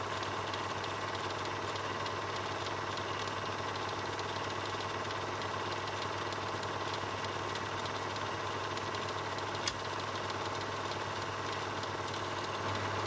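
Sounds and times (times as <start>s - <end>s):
film projector running: 0.0s - 13.0s.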